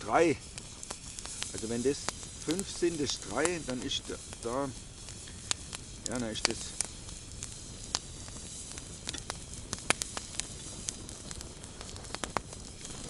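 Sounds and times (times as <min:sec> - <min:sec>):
campfire crackling and popping: 0:00.0 - 0:13.0
steady low hiss: 0:00.0 - 0:13.0.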